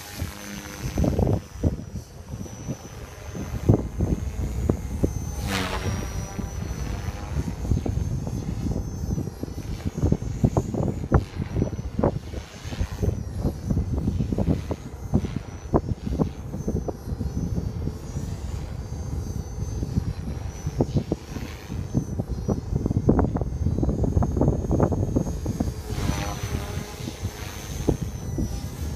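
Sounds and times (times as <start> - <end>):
rc helicopter whine: 0.0 - 28.9
wind buffeting microphone: 0.0 - 28.9.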